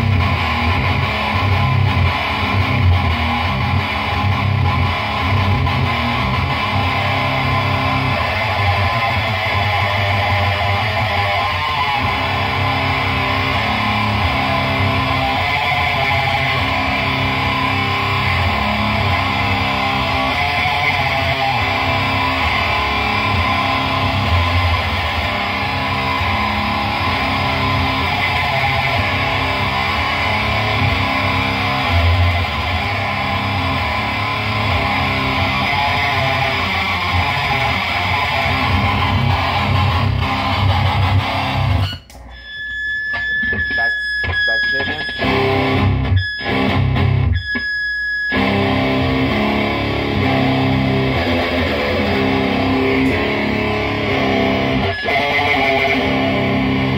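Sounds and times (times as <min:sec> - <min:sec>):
distorted electric guitar riffs: 0:00.0 - 0:56.9.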